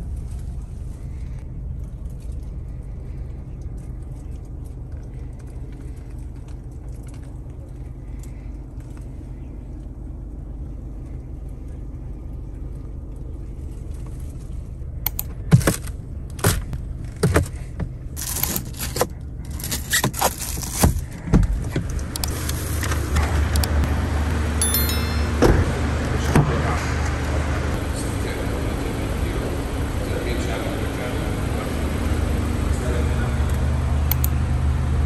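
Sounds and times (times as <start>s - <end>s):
low cabin hum: 0.0s - 35.0s.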